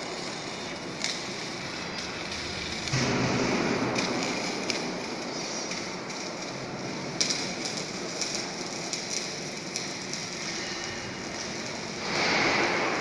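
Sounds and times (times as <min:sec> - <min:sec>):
factory hall background noise: 0:00.0 - 0:13.0.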